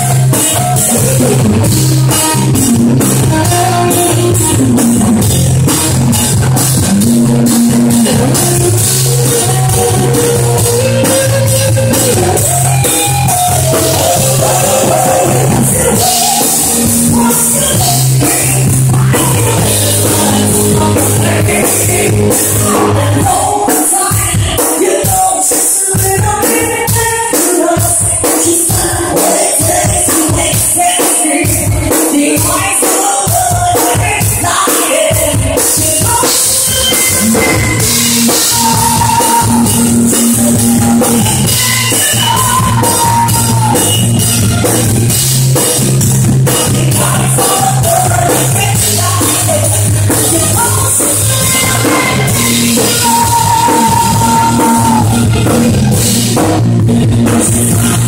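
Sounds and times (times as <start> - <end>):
woman singing into a microphone: 0.0 - 5.3, 7.2 - 44.2, 46.4 - 55.6, 57.2 - 58.0
live band music: 0.0 - 58.0.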